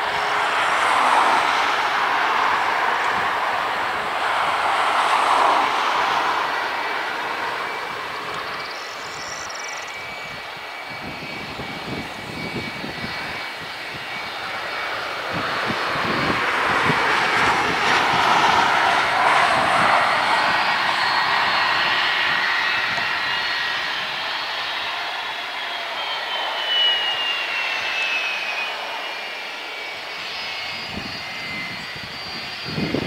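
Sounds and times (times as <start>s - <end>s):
jet engines taxiing: 0.0s - 33.0s.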